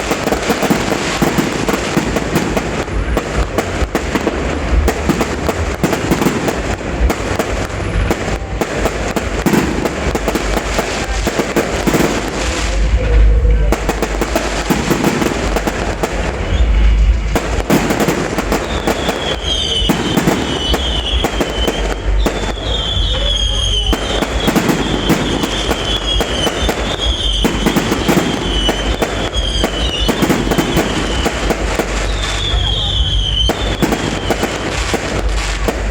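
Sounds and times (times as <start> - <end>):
fireworks bangs and crackles: 0.0 - 35.9
low rumble: 2.0 - 35.9.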